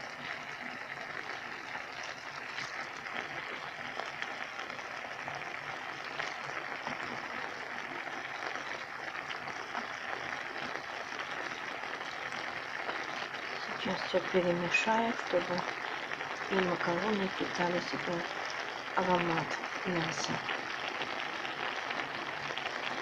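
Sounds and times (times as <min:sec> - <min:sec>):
food sizzling in frying pan: 0:00.0 - 0:23.0.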